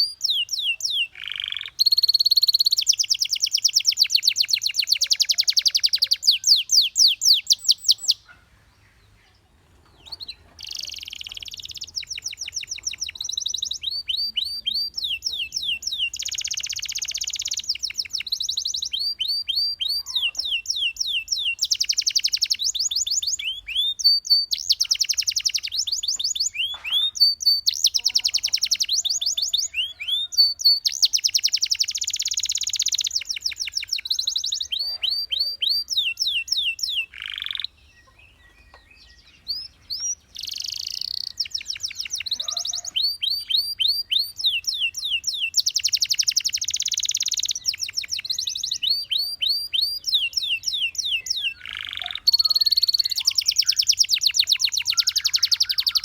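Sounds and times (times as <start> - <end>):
canary trilling song: 0.0 - 56.0.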